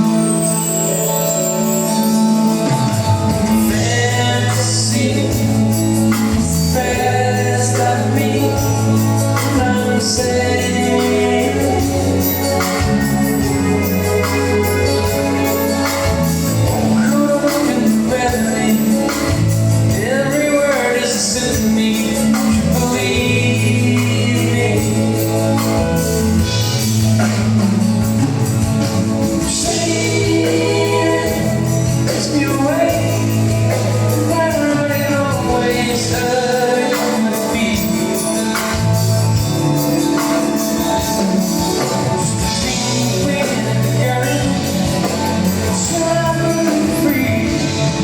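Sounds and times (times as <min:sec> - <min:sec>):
soft rock band playing: 0:00.0 - 0:48.0.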